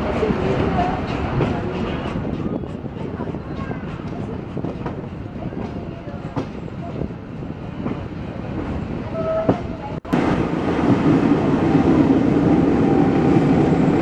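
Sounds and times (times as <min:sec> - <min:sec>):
steam train rumbling on rails: 0:00.0 - 0:14.0.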